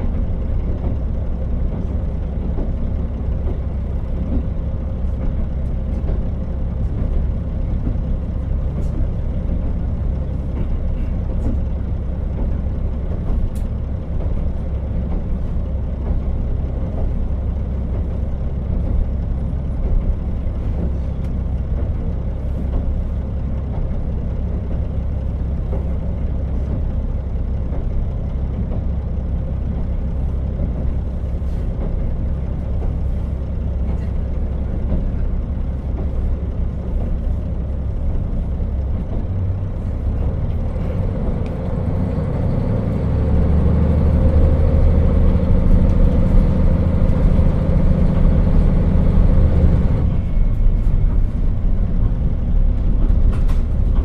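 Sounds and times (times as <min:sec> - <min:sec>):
diesel railcar rumbling: 0:00.0 - 0:54.0.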